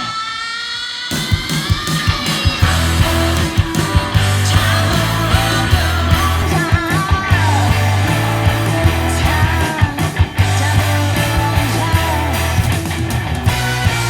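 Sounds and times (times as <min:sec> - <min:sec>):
rock song over loudspeaker: 0:00.0 - 0:14.0.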